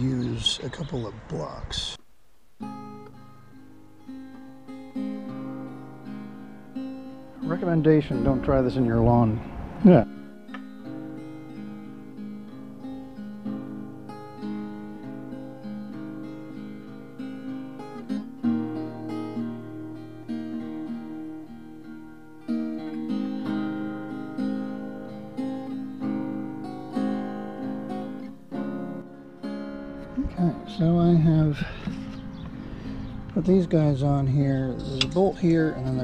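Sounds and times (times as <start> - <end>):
acoustic guitar music: 2.2 - 36.0.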